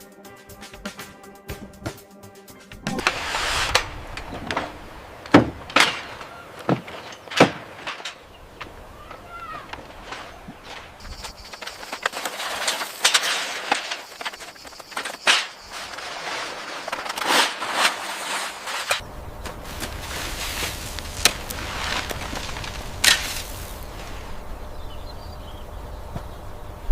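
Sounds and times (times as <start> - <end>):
steady hiss: 2.9 - 26.9.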